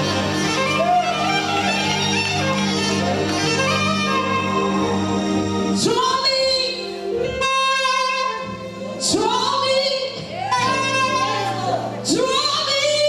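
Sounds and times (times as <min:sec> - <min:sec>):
sustained instrumental accompaniment: 0:00.0 - 0:13.0.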